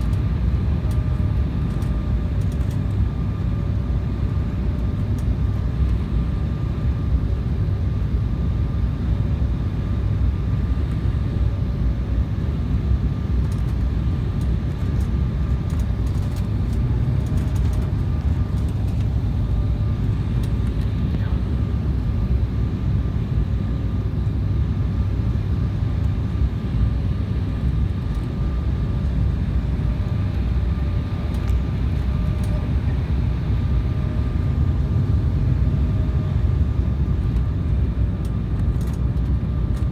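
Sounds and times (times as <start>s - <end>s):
low rumble of jet engines: 0.0s - 39.9s.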